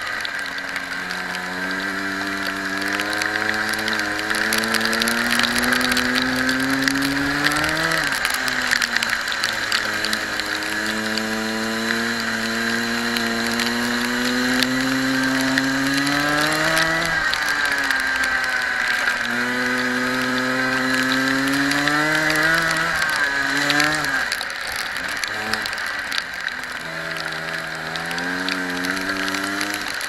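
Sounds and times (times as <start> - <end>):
kart engine revving: 0.0 - 30.0.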